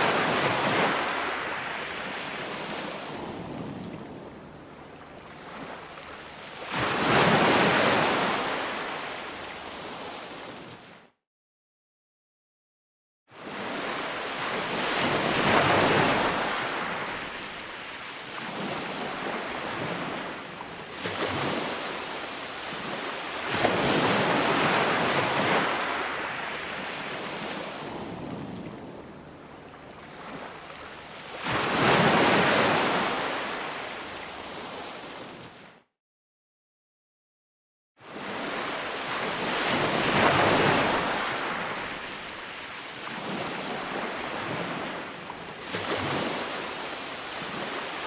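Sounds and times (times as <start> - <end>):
ocean waves breaking on shore: 0.0 - 11.1, 13.3 - 35.8, 38.0 - 48.0.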